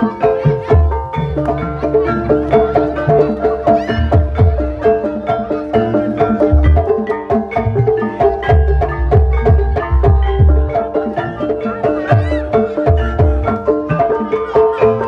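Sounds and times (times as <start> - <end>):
metallophones playing a melody: 0.0 - 15.0.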